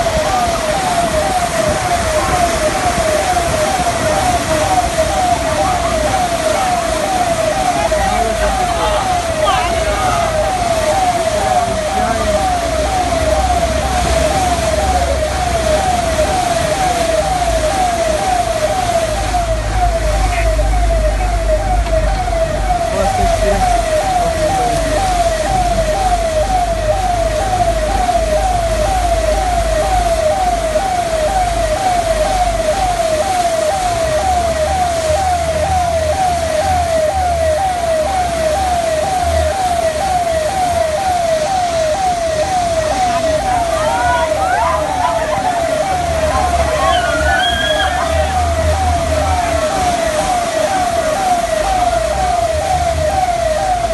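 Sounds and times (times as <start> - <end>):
electronic siren wailing: 0.0 - 53.9.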